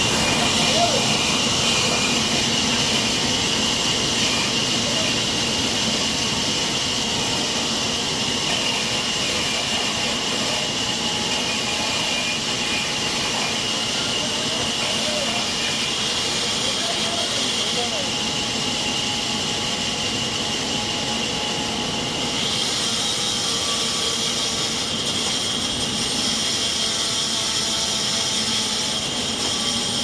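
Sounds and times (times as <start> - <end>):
sawmill saw whining: 0.0 - 30.0.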